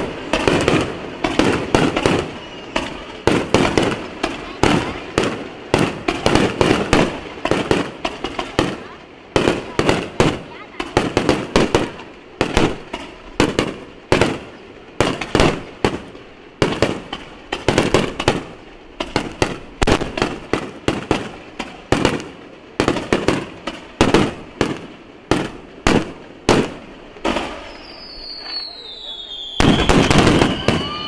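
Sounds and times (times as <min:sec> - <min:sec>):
fireworks bursting with echo: 0:00.0 - 0:31.0.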